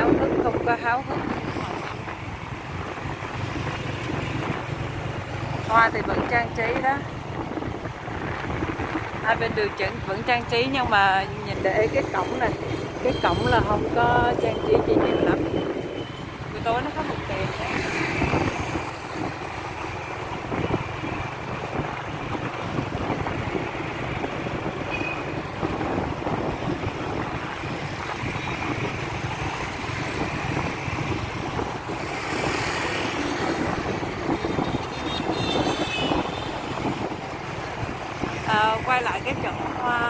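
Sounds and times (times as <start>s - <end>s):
street traffic noise: 0.0s - 40.0s.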